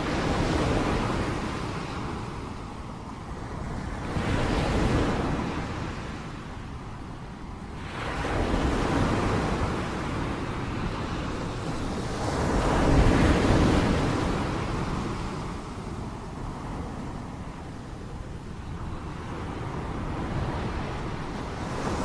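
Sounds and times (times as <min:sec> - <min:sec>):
waves breaking on shore: 0:00.0 - 0:22.0.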